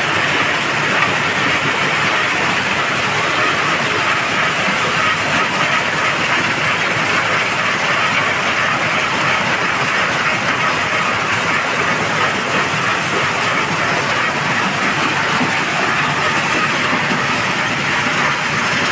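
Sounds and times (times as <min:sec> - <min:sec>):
stone crusher machinery: 0:00.0 - 0:18.9
stone on conveyor belts: 0:00.0 - 0:18.9.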